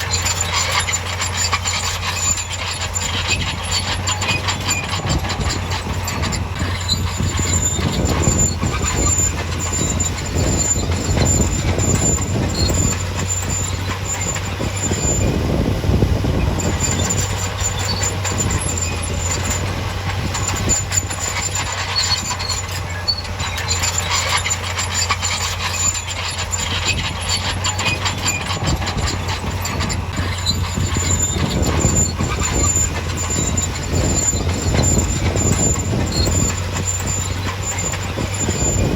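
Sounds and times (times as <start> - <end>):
diesel engine running: 0.0 - 38.9
high squeal: 0.0 - 38.9
metallic clatter: 0.0 - 38.9.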